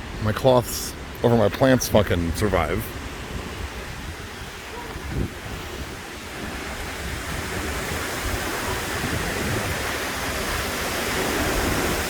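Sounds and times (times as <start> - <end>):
rain falling: 0.0 - 12.0
storm wind rushing through trees: 0.0 - 12.0
wind buffeting microphone: 2.3 - 12.0.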